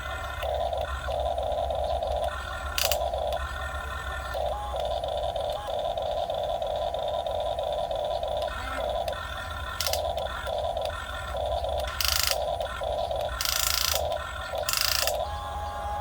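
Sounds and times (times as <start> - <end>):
pulsing motor sound: 0.0 - 16.0.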